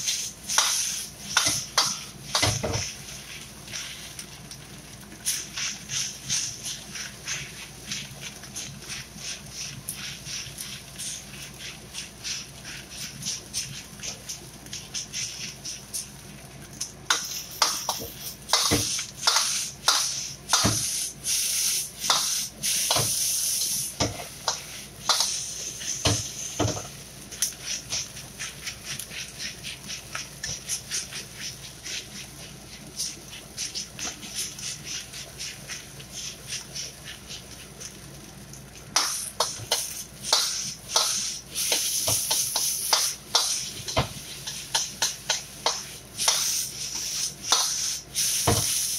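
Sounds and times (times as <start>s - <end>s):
sizzling hiss: 0.0s - 48.9s.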